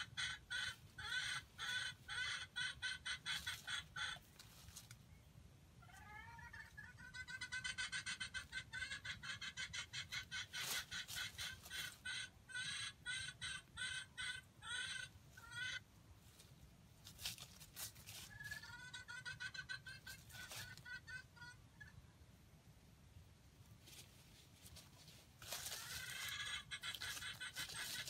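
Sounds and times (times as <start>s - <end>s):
junglefowl clucking: 0.0s - 5.0s, 5.8s - 16.0s, 17.2s - 22.1s, 24.7s - 28.0s.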